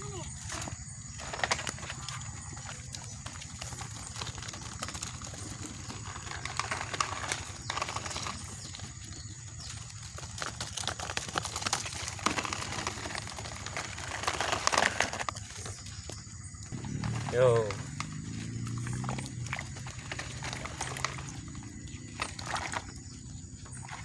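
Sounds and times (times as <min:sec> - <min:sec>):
toy truck rattling over rough ground: 0:00.0 - 0:24.0.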